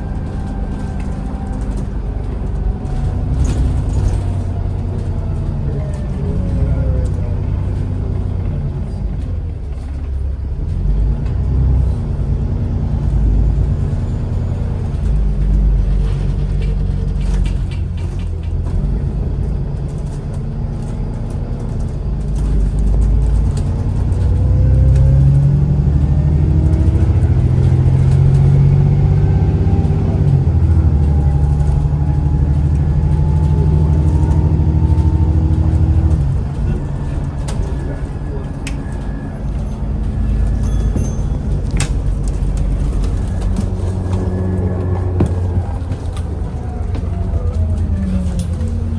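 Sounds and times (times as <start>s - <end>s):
bus engine rumbling and whining: 0.0s - 48.9s.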